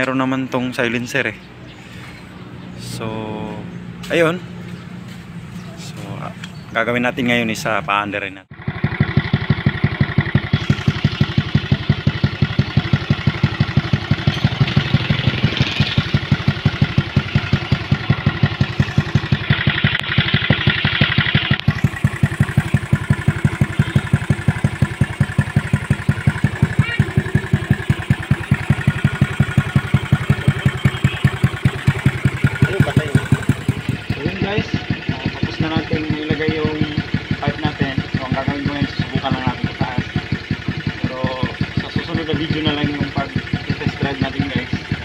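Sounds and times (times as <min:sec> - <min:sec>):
scooter engine idling: 0:08.5 - 0:45.0.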